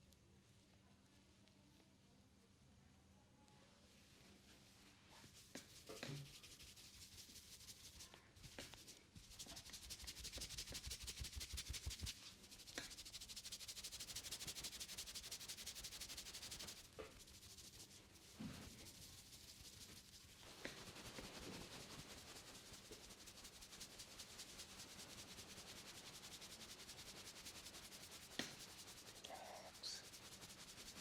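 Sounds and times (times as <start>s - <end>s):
hands rubbing through hair: 4.2s - 31.0s.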